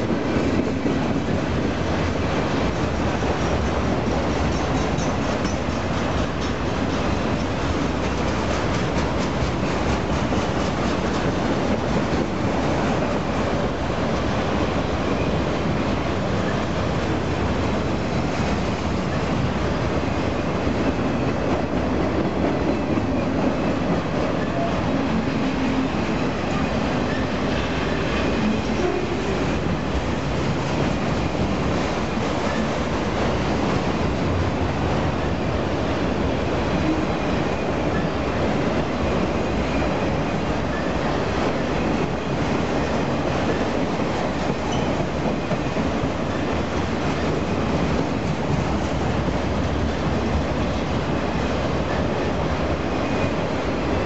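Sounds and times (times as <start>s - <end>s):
freight cars rumbling on rails: 0.0s - 54.0s.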